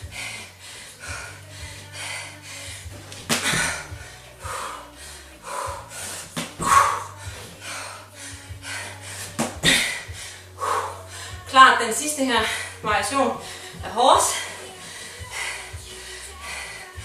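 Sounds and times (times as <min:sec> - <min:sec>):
woman breathing hard: 0:00.0 - 0:11.6, 0:12.3 - 0:17.0.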